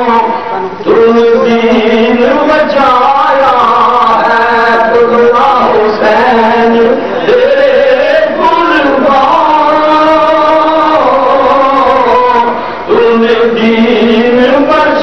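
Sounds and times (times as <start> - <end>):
man chanting through a microphone: 0.0 - 15.0.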